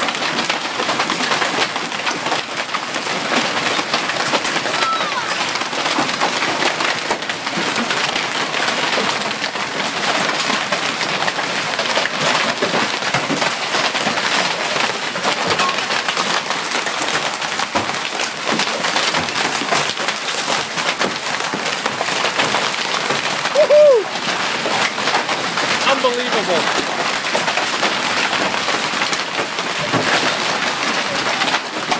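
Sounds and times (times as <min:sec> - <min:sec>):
hail pelting down: 0:00.0 - 0:31.9.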